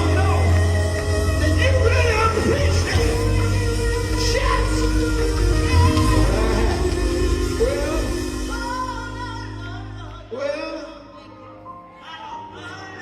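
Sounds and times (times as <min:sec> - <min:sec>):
gospel band held chords: 0:00.0 - 0:13.0
man singing: 0:00.0 - 0:13.0.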